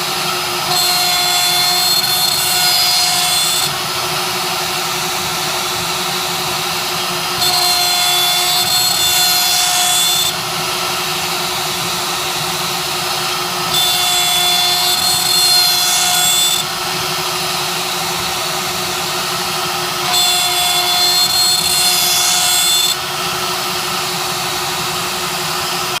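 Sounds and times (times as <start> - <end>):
cnc machine humming: 0.0 - 26.0
machine high whine and hiss: 0.0 - 26.0.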